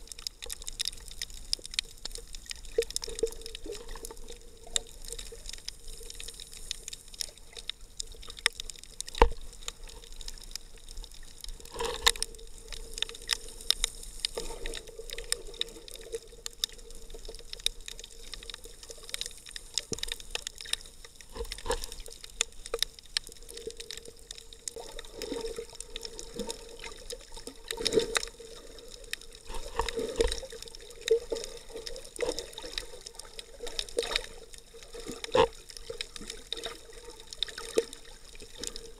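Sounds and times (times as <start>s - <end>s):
muffled underwater sloshing: 0.0s - 38.9s
sharp clicks and pops: 0.0s - 38.9s.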